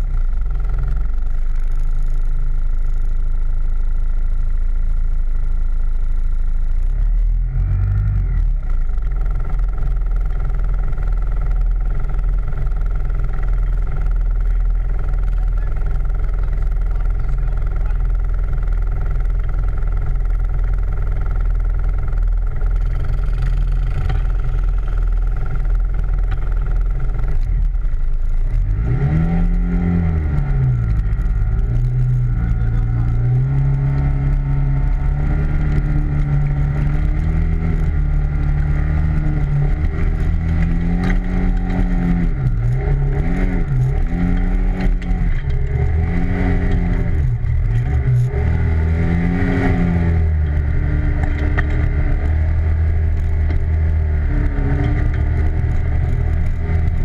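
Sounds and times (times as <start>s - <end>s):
atv engine revving: 0.0s - 57.0s
constant low rumble: 0.0s - 57.0s.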